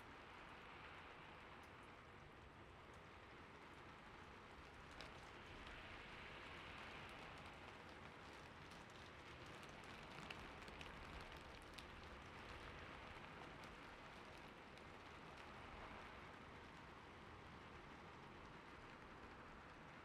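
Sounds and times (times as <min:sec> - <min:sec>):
gentle steady rain: 0:00.0 - 0:20.0.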